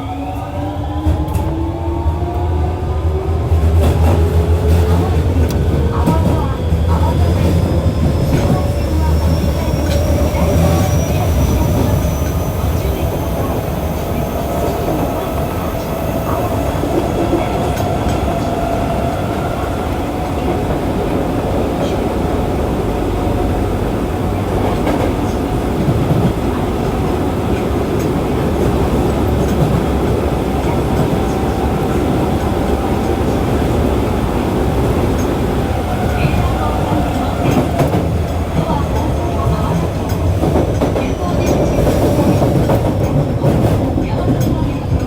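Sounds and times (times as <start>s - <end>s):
subway wheel and rail rumble: 0.0s - 45.0s
light track clicks: 3.5s - 22.1s, 24.3s - 45.0s.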